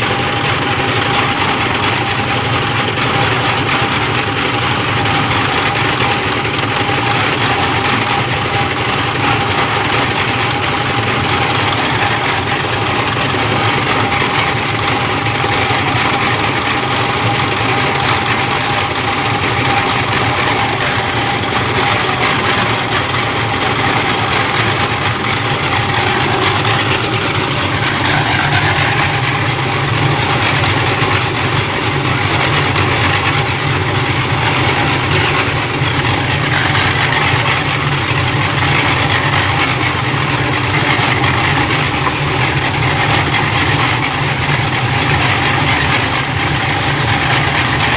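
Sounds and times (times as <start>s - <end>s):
engine droning: 0.0s - 47.9s
steady whine: 0.0s - 47.9s.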